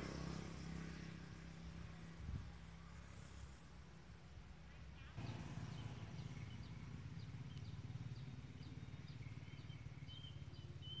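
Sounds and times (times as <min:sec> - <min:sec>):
small birds chirping: 0:02.0 - 0:11.0.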